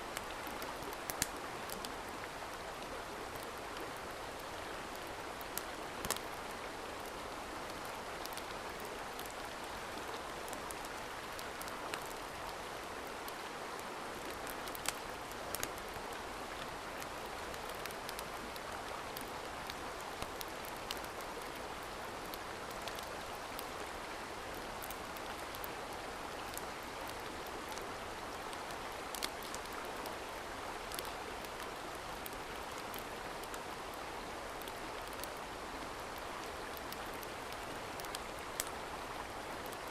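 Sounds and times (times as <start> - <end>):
sharp crackles and pops: 0.1 - 2.2, 3.3 - 39.9.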